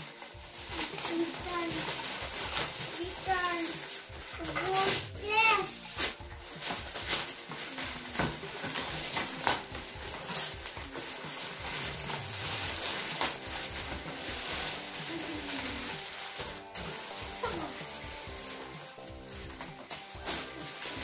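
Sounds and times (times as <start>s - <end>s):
foil paper crinkling: 0.0s - 21.0s
paper ripping: 0.0s - 21.0s.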